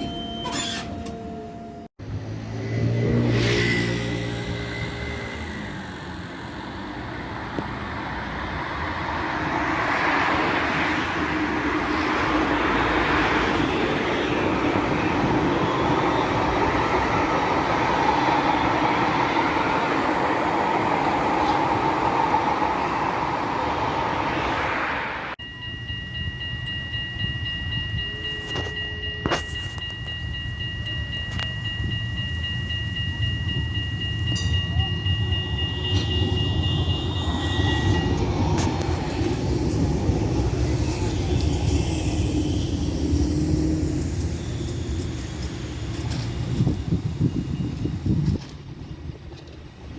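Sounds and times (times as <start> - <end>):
approaching tram rumble: 0.0 - 49.9
tram wheels on rail: 0.0 - 49.9.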